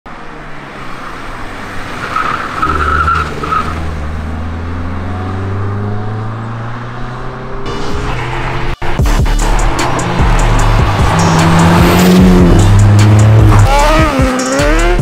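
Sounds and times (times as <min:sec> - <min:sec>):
car engine accelerating: 0:00.2 - 0:15.0.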